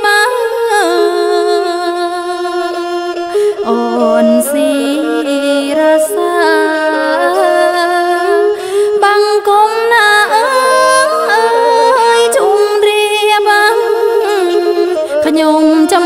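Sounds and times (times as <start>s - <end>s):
bowed two-string fiddle: 0.0s - 16.0s
woman singing: 0.0s - 16.0s.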